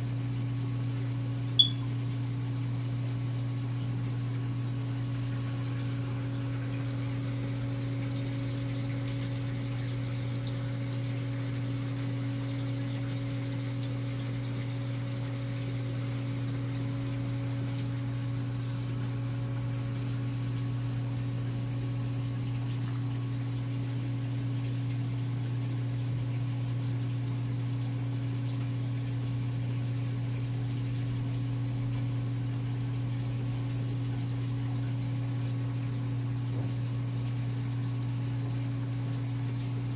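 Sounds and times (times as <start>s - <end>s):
aquarium water pump humming: 0.0s - 39.9s
circulating water wash: 0.0s - 39.9s.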